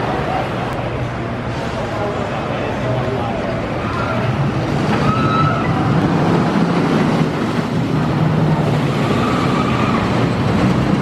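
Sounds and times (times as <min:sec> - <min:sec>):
roller coaster rumbling: 0:00.0 - 0:11.0.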